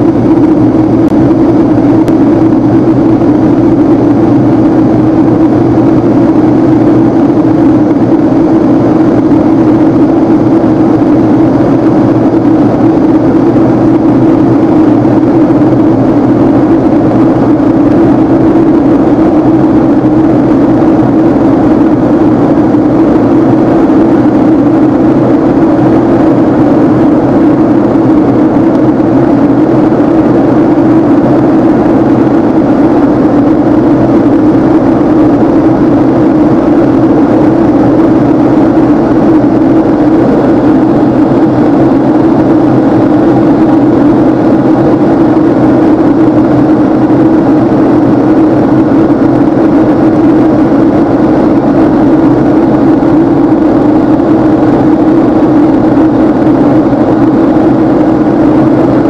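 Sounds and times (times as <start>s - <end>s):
jet engine cabin drone: 0.0s - 59.0s.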